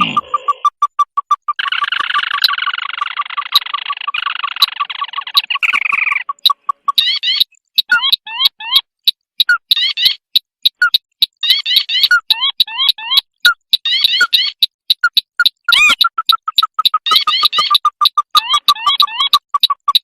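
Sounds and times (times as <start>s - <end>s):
chattering churr: 0.0s - 20.0s
quick ticking bird notes: 0.0s - 20.0s
sharp clicks: 0.0s - 20.0s.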